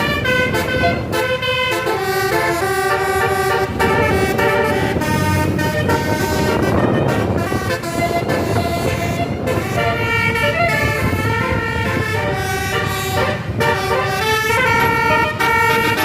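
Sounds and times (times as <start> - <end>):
engine and road noise: 0.0 - 16.0
multi-tone bus horn tune: 0.0 - 16.0.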